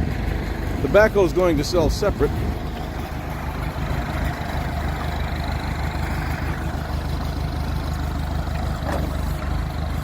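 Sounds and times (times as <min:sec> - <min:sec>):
diesel engine running at low revs: 0:00.0 - 0:10.0.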